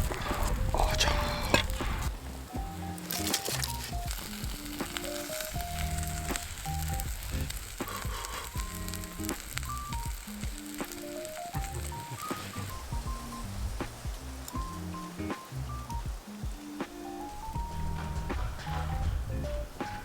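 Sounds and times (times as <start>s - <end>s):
food frying sizzle: 0.0s - 20.0s
music with melody and bass: 0.0s - 20.0s.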